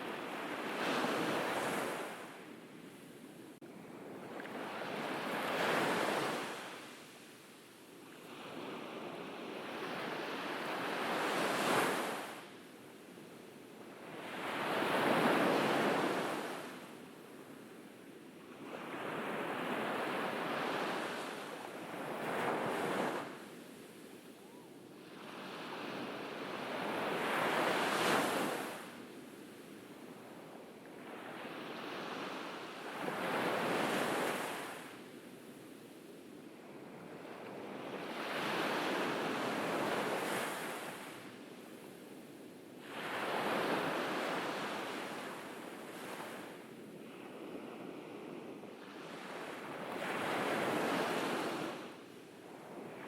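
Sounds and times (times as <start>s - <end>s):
ocean waves breaking on beach: 0.0s - 2.5s, 3.7s - 7.3s, 8.2s - 12.6s, 13.9s - 17.0s, 18.4s - 35.7s, 36.7s - 53.0s.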